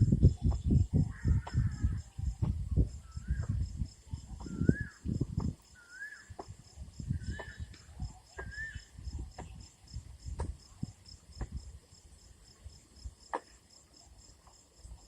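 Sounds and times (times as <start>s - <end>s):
high insect chirping: 0.0s - 15.0s.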